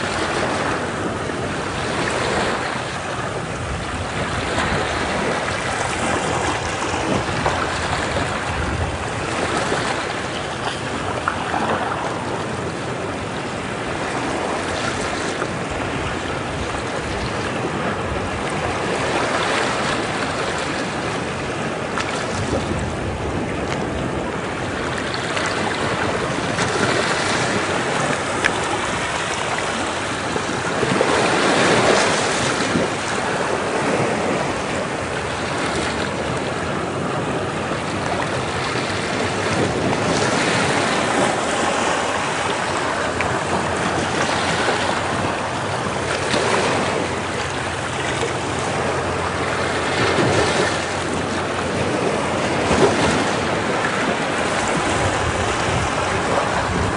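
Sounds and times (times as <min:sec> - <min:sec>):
ocean waves washing against rocks: 0:00.0 - 0:56.9.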